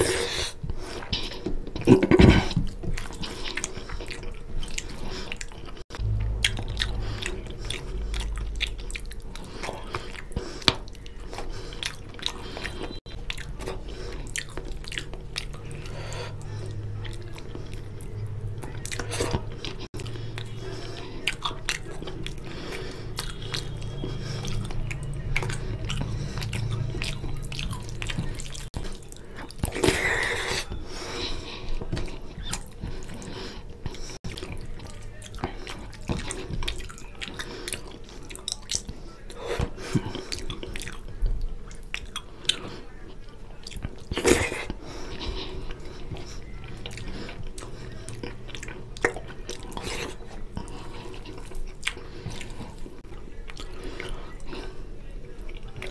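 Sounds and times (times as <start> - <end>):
steady low hum: 0.0 - 55.9
wet chewing and mouth smacks: 0.4 - 55.9.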